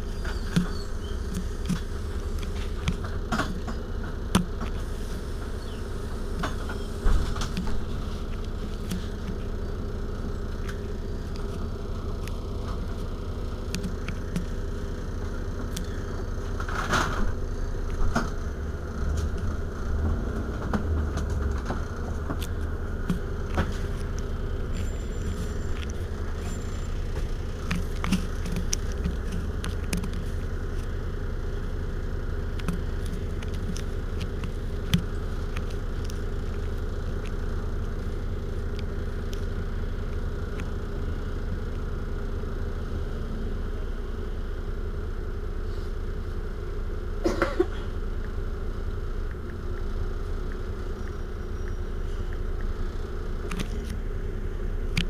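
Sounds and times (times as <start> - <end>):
bus engine idling: 0.0 - 55.0.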